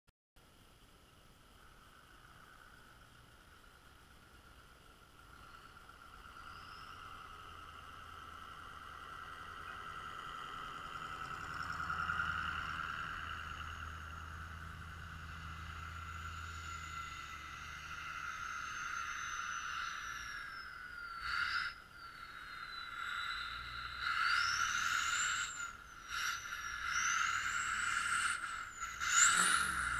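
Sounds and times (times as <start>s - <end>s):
steady high hum: 0.4s - 29.9s
pickup truck engine rumbling: 1.4s - 29.9s
thin falling and rising tone: 4.1s - 29.9s.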